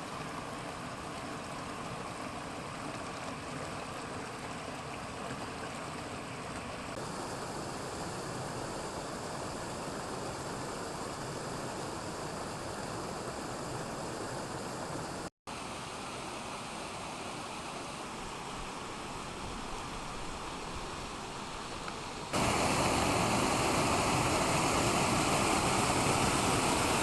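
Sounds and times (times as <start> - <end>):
flowing water: 0.0 - 27.0.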